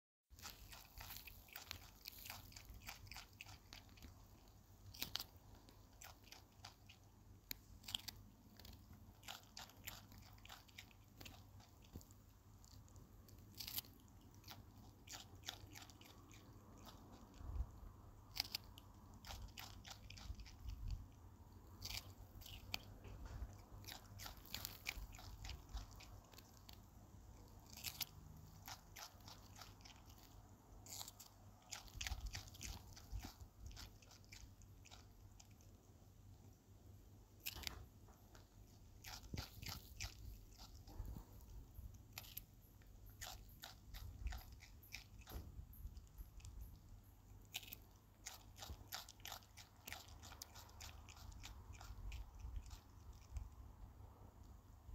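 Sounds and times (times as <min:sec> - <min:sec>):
possum crunching capsicum: 0:00.3 - 0:54.9.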